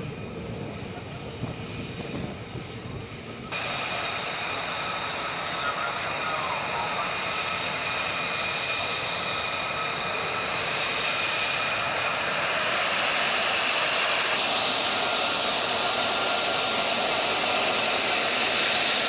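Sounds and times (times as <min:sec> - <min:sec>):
jet engine whining: 0:00.0 - 0:19.0.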